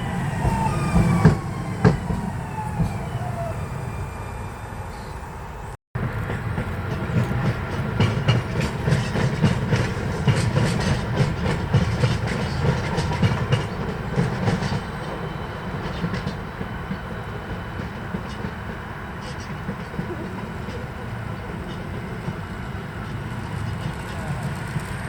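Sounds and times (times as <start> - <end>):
wheels clicking over rail joints: 0.0 - 4.1, 6.0 - 25.0
tram rumbling past: 0.0 - 25.0.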